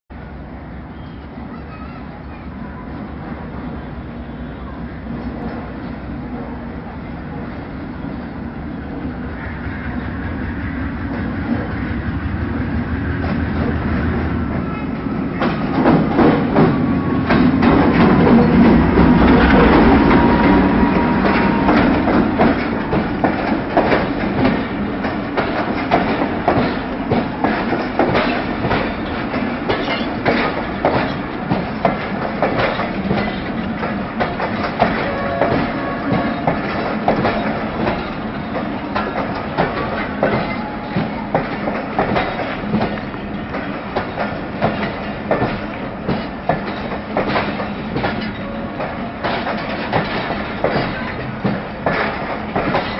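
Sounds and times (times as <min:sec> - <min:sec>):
diesel locomotive engine: 0:00.1 - 0:52.9
wheels clickety-clack over rail joints: 0:01.2 - 0:52.9.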